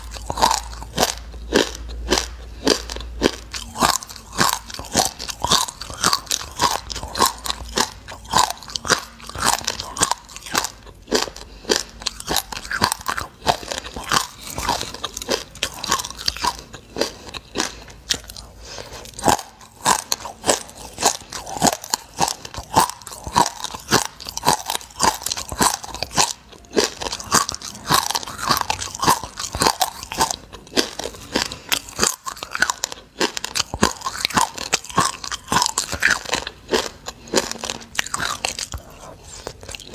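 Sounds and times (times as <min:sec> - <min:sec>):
chewing crunchy seeds: 0:00.0 - 0:39.9.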